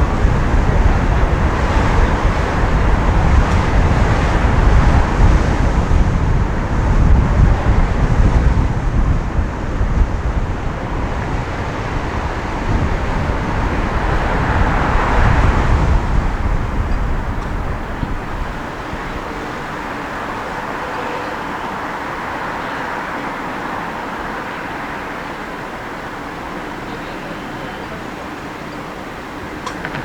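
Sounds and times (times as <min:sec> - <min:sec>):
wind rumble on microphone: 0:00.0 - 0:24.1, 0:29.0 - 0:30.0
road and traffic noise: 0:00.0 - 0:30.0.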